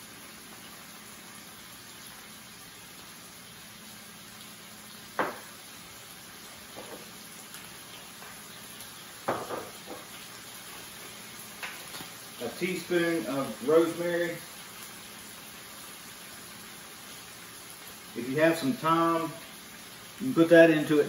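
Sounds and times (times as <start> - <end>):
meat sizzling in oil: 0.0 - 21.0.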